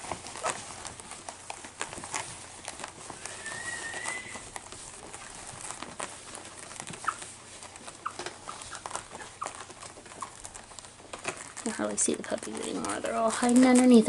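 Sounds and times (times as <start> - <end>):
puppies squeaking: 0.0 - 13.7
puppies scrambling and rustling: 0.0 - 14.0.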